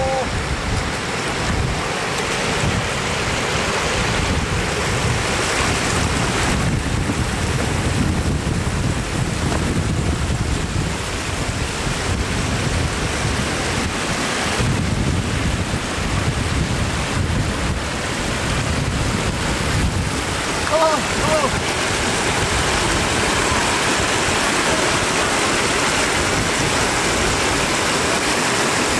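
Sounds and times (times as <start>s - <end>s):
floodwater rushing over edge: 0.0s - 28.9s.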